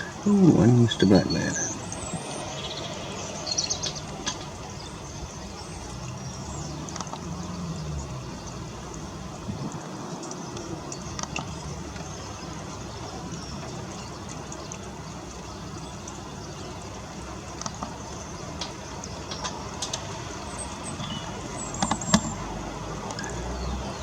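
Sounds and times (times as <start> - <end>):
pouring rain hissing: 0.0 - 24.0.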